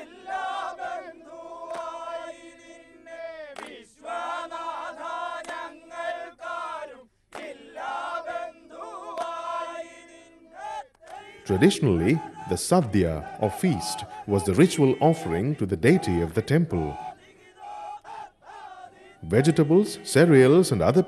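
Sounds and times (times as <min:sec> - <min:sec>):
men singing in chorus: 0:00.0 - 0:20.3.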